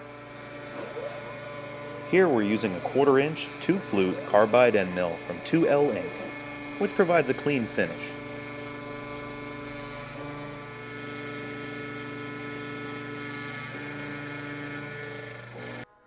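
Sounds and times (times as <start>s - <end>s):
milling machine cutting metal: 0.0s - 15.9s.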